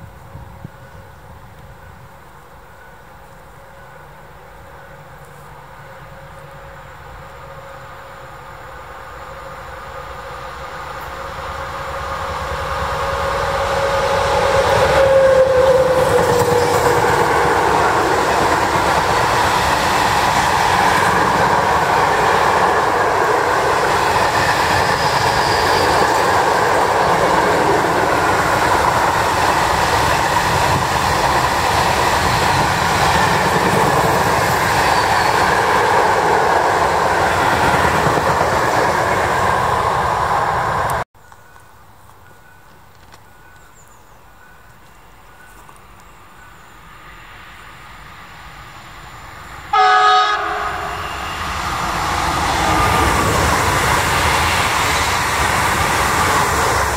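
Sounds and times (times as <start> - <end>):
freight train passing: 0.0 - 41.6, 42.2 - 56.9
steady locomotive tone: 0.0 - 56.9.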